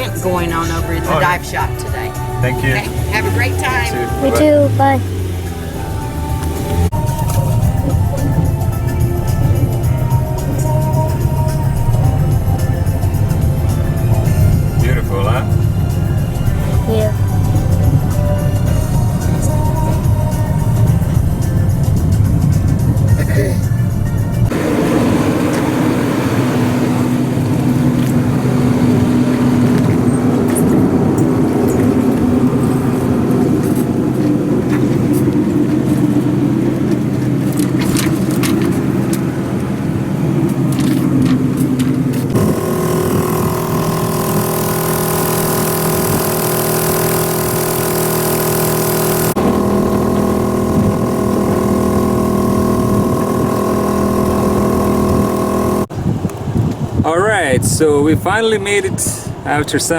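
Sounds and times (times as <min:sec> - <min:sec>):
motor engine running: 0:00.0 - 0:56.8.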